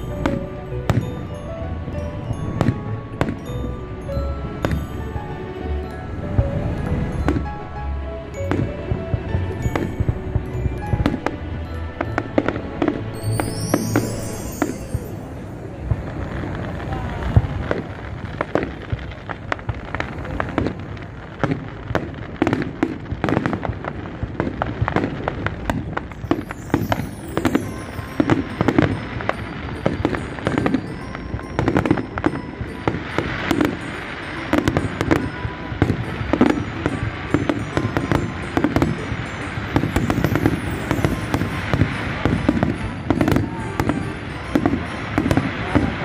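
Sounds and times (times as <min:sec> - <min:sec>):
fireworks banging and crackling: 0:00.0 - 0:46.0.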